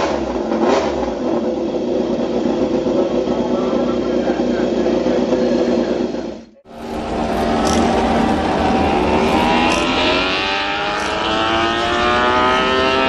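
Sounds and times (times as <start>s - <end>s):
engine crackles: 0.0s - 13.0s
motorcycle engine revving: 0.0s - 13.0s.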